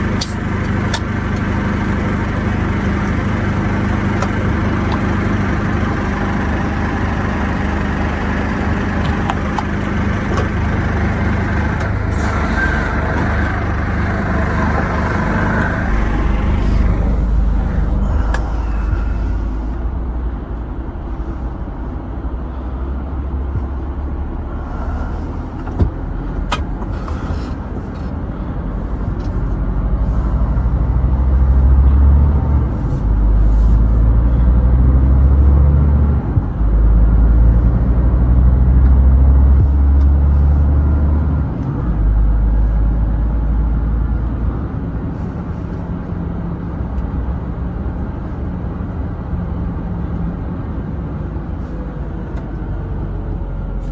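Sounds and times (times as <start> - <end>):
road noise: 0.0 - 53.9
truck diesel engine drone: 0.0 - 53.9.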